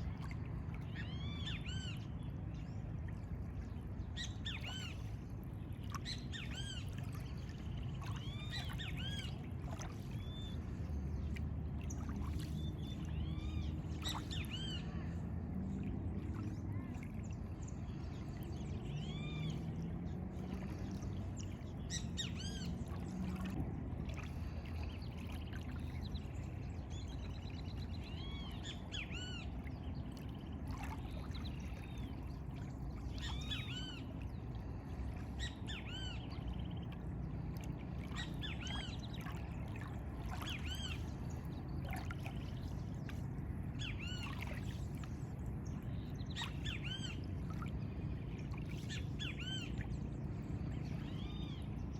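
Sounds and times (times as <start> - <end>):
low background rumble: 0.0 - 51.9
birds singing: 3.8 - 15.2, 15.8 - 23.6, 24.2 - 51.9.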